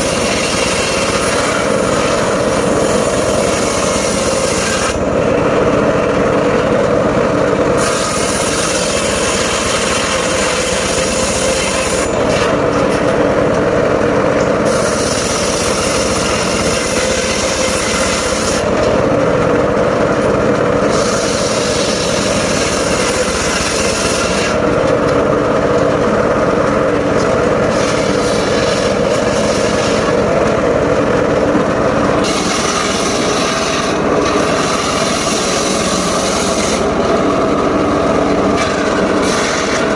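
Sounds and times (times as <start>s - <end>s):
saw blade cutting logs: 0.0s - 39.9s
sawmill engine running: 0.0s - 39.9s.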